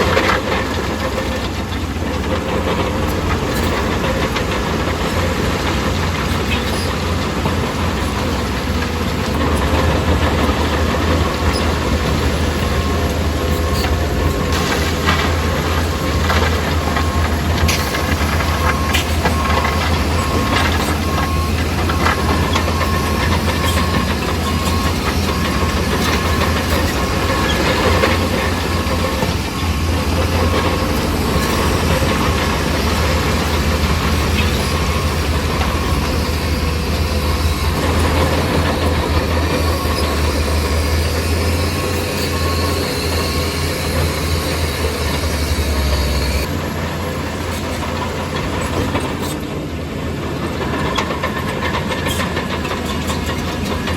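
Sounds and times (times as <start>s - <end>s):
bulldozer diesel engine: 0.0s - 53.9s.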